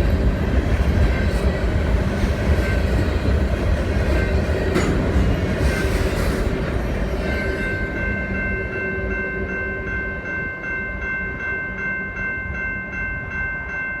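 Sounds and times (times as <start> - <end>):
freight train rumbling past: 0.0 - 13.4.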